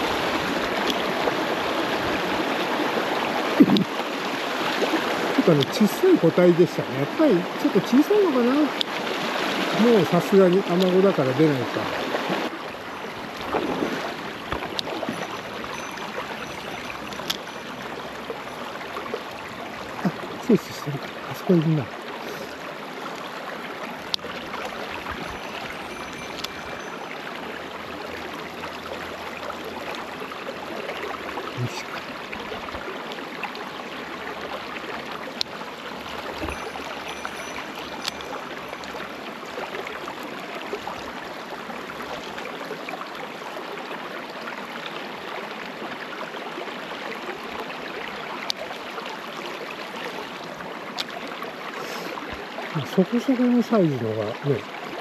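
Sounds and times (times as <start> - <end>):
mountain stream flowing: 0.0 - 55.0.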